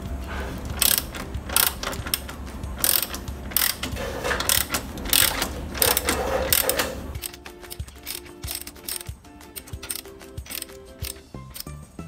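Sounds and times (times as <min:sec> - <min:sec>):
ratchet wrench pawl clicking: 0:00.8 - 0:11.7.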